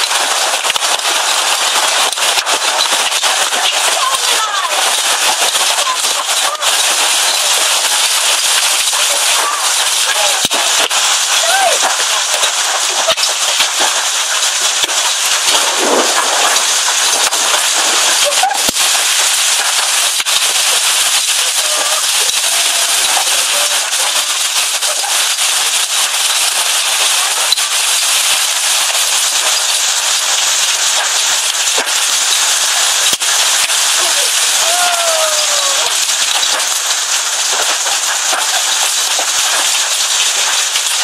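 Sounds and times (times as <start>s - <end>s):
hailstones clattering: 0.0s - 41.0s
sharp cracks of single hailstones: 0.0s - 41.0s.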